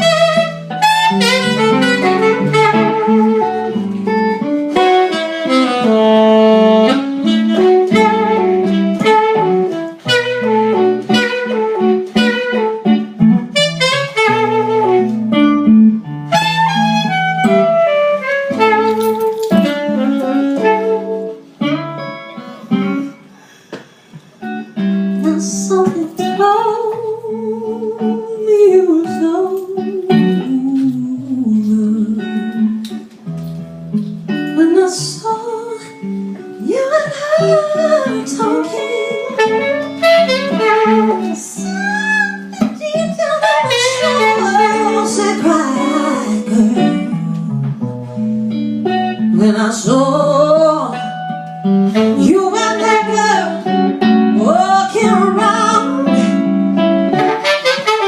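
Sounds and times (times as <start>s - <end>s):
instrumental soul ballad: 0.0s - 58.0s.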